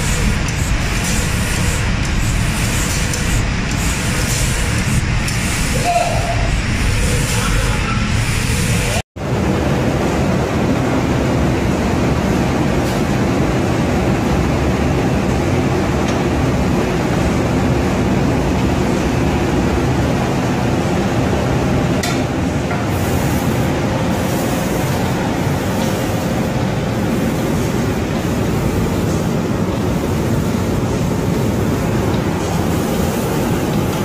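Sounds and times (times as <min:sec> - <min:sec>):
loud industrial fans and conveyor: 0:00.0 - 0:34.0.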